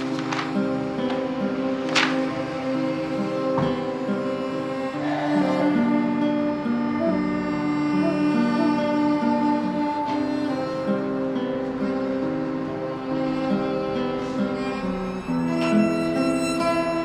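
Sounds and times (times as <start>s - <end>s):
bowed string notes: 0.0s - 17.0s
plucked guitar: 0.0s - 17.0s.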